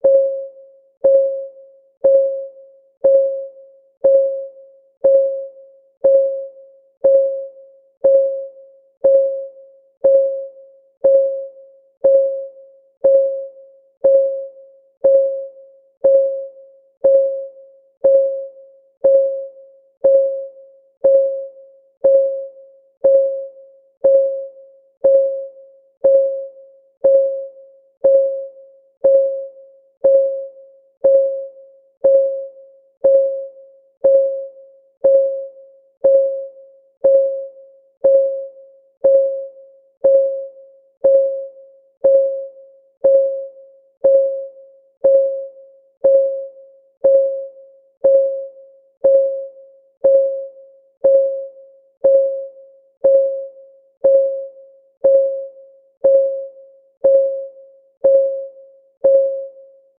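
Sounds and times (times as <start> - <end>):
electronic clock ticking: 0.0 - 59.7.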